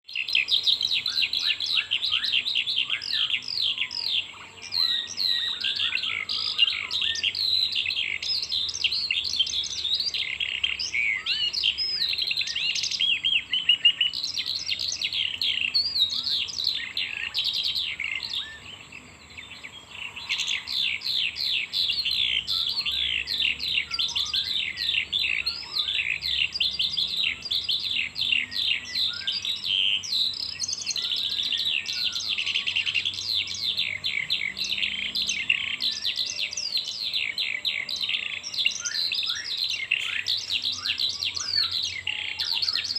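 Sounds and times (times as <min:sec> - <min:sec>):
songbird chirping and trilling: 0:00.0 - 0:42.9.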